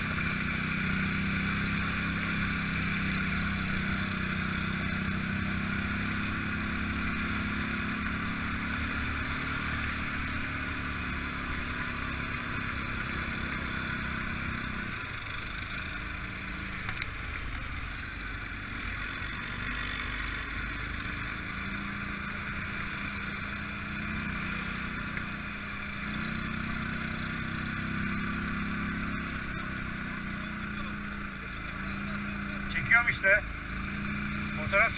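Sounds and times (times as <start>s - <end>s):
atv engine running: 0.0s - 34.9s.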